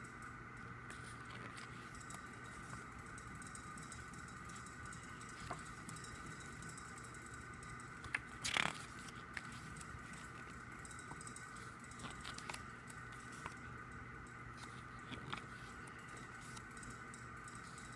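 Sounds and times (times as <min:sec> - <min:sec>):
faint hum: 0:00.0 - 0:17.9.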